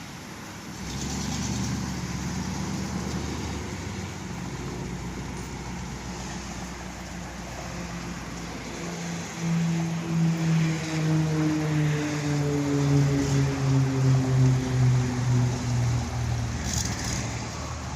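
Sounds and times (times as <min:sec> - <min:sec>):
car engine rumble: 0:00.0 - 0:17.9.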